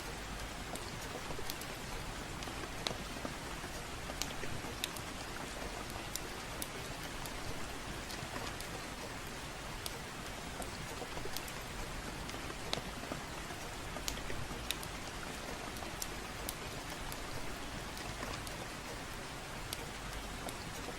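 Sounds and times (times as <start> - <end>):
gentle rain: 0.0 - 20.9
wood fire crackling: 0.3 - 20.9.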